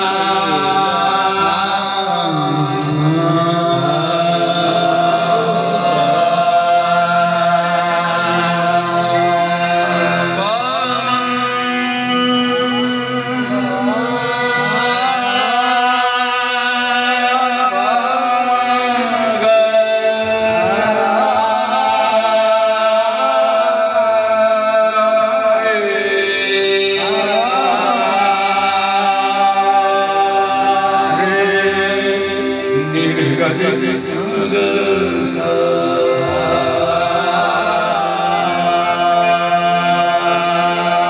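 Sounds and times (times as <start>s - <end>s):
harmonium drone: 0.0s - 24.4s, 25.8s - 41.0s
men singing devotional song: 0.0s - 41.0s.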